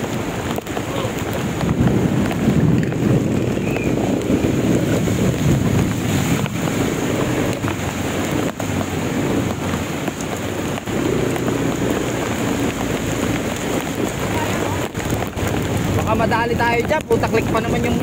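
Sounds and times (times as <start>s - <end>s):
heavy rain pouring: 0.0s - 18.0s
wind buffeting microphone: 0.0s - 18.0s.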